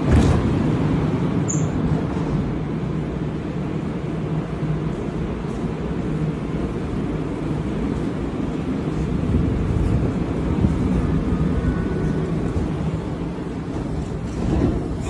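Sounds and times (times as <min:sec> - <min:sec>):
metro station rumble: 0:00.0 - 0:15.0.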